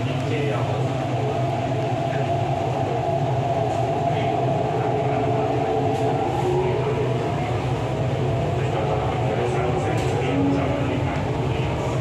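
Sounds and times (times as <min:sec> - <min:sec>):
steady train hum: 0:00.0 - 0:12.0
train wheels rumbling: 0:00.0 - 0:12.0.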